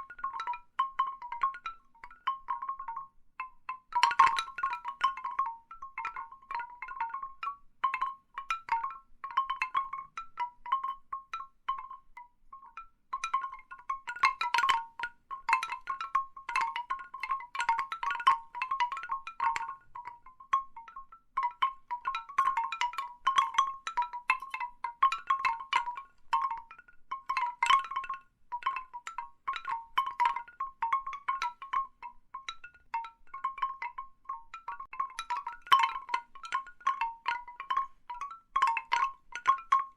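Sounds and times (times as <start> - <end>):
bamboo wind chimes knocking: 0.0 - 39.9.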